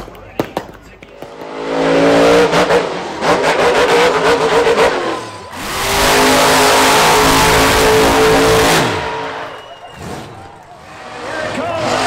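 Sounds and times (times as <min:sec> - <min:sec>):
truck engine revving: 0:01.2 - 0:12.0.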